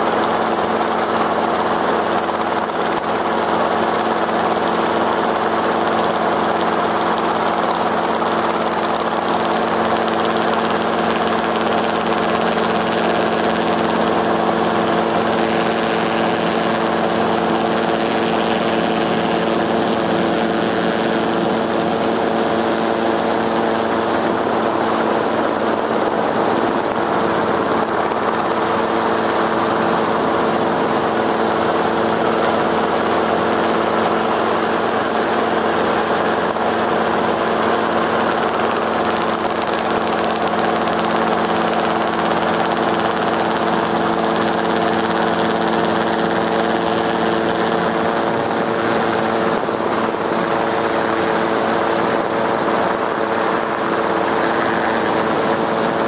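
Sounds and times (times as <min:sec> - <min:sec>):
aircraft rotors humming: 0:00.0 - 0:56.0.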